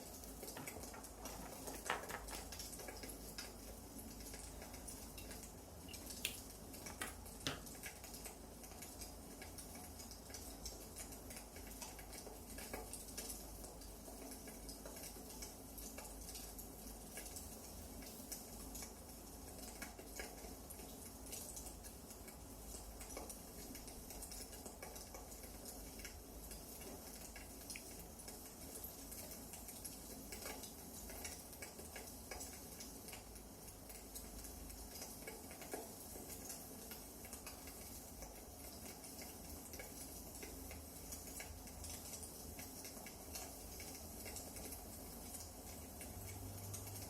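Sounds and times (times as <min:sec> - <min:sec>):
soft hiss: 0:00.0 - 0:47.0.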